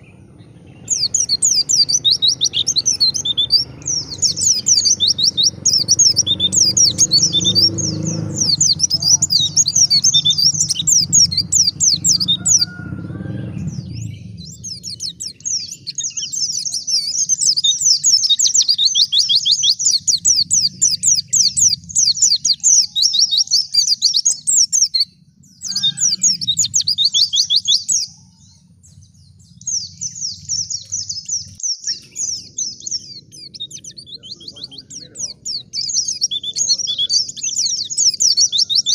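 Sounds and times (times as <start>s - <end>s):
bird twittering song: 0.0s - 38.9s
low background rumble: 0.0s - 38.9s.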